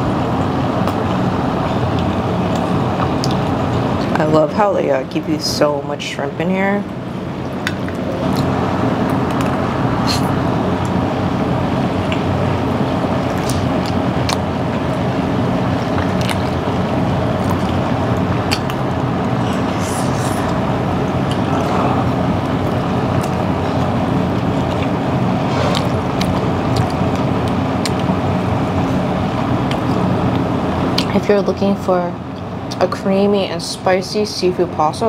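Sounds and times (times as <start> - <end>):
restaurant hum and murmur: 0.0 - 35.0.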